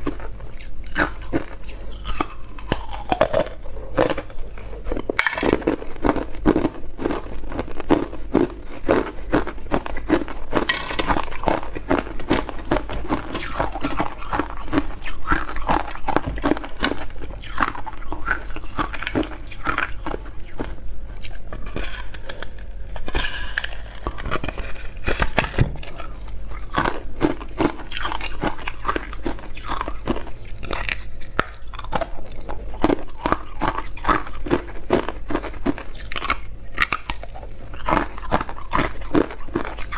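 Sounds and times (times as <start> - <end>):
ice being chewed and crunching: 0.0 - 39.9.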